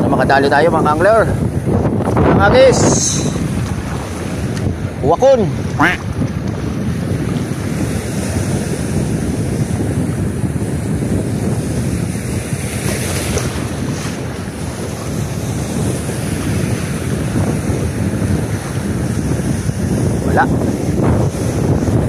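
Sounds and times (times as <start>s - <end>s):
sea waves washing on shore: 0.0s - 22.0s
wind noise on microphone: 0.0s - 22.0s.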